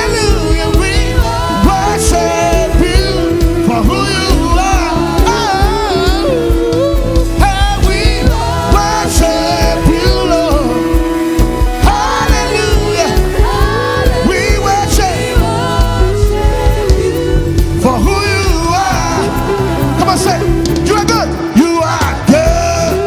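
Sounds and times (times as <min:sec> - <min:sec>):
keyboard and bass tones: 0:00.0 - 0:23.0
steady drum beat: 0:00.0 - 0:23.0
voices singing: 0:00.0 - 0:23.0.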